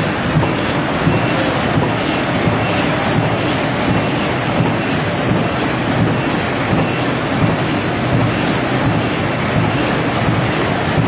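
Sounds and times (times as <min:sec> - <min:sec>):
stapling machine clatter: 0:00.0 - 0:11.0.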